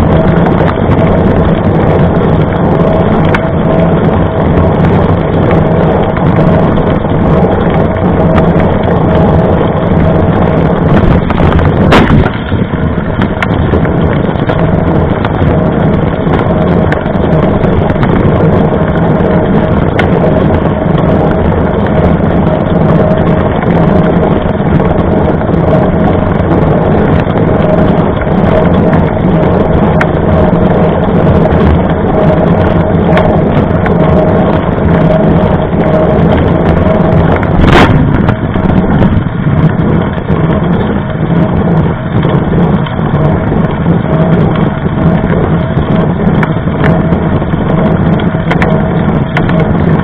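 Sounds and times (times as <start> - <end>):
bike tyre rolling on asphalt: 0.0 - 50.0
wind rushing over microphone: 0.0 - 50.0.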